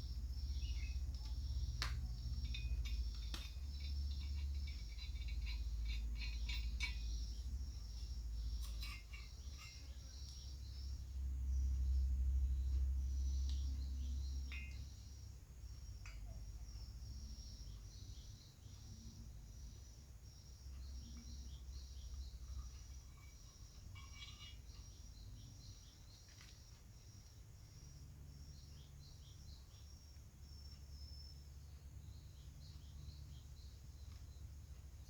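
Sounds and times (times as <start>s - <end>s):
insect and bird chirps: 0.0s - 35.0s.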